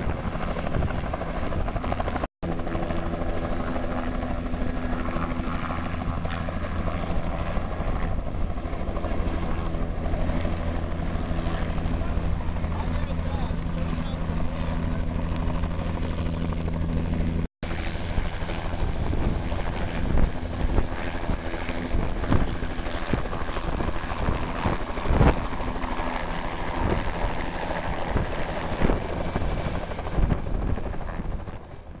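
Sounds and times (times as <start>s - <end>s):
helicopter engine and rotor: 0.0s - 32.0s.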